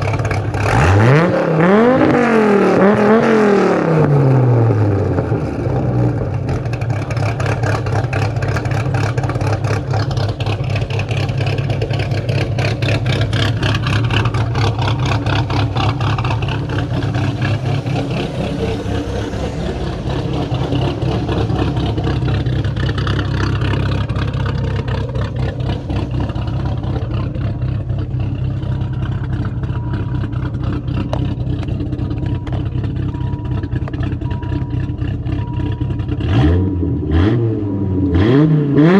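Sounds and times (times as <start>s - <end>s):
car engine idling loudly: 0.0s - 1.2s, 4.1s - 36.6s.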